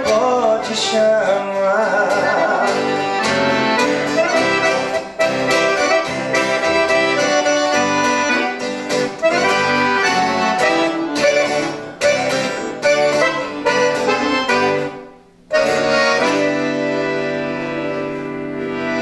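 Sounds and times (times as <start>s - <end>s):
accordion-like instrumental melody: 0.0s - 19.0s
steady musical accompaniment: 0.0s - 19.0s.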